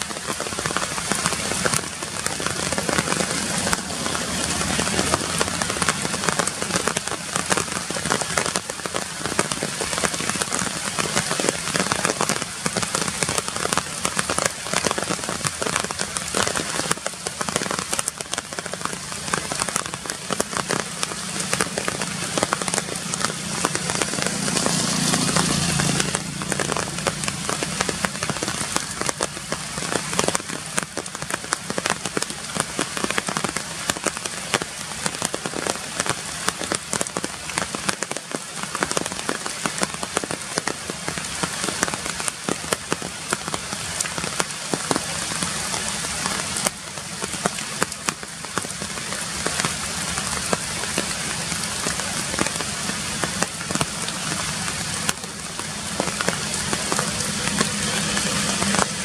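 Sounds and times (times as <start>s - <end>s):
rain hitting leaves: 0.0s - 59.0s
raindrops ticking: 0.0s - 59.0s.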